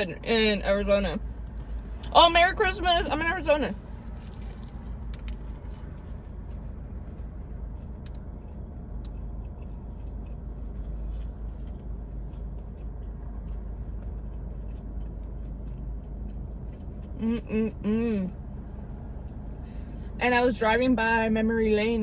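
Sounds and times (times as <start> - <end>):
low vehicle rumble: 0.0 - 22.0.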